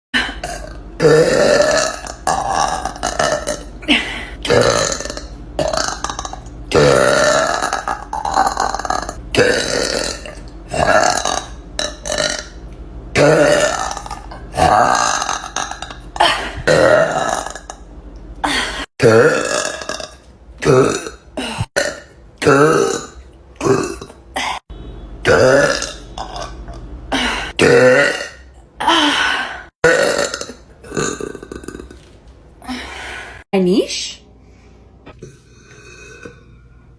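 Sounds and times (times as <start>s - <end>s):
woman burping loudly: 0.2s - 32.0s.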